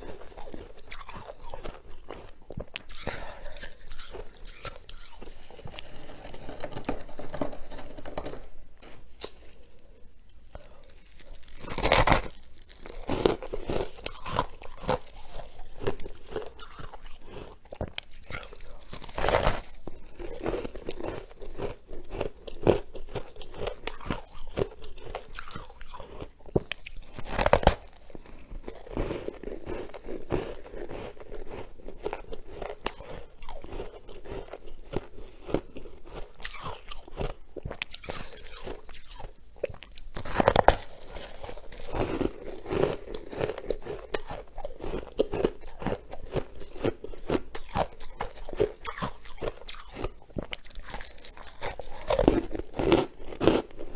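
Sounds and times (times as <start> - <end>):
frost crunching being chewed: 0.0 - 8.5, 9.1 - 53.9.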